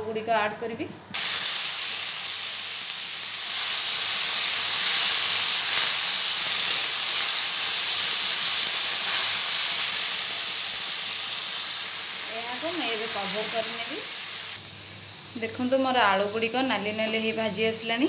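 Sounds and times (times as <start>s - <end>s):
potatoes sizzling in hot oil: 1.1s - 18.0s.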